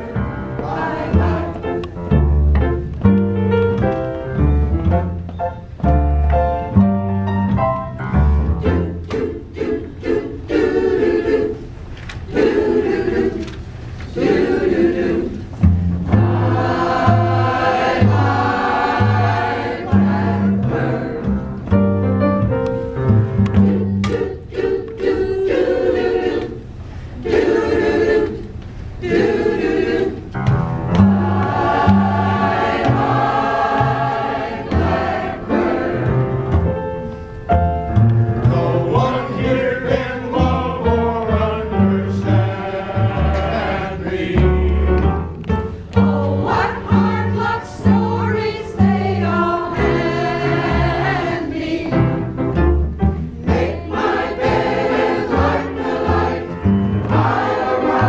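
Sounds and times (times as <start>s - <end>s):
mixed choir singing in parts: 0.0s - 2.3s, 8.6s - 21.9s, 23.0s - 36.7s, 38.4s - 52.4s, 53.4s - 58.0s.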